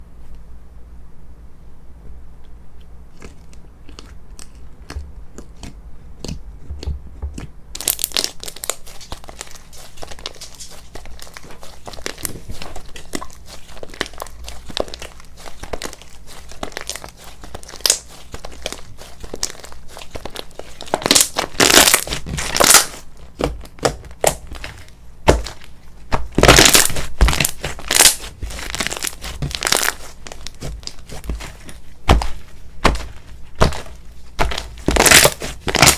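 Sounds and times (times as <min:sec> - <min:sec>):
slime crackling and popping: 0:03.9 - 0:35.9.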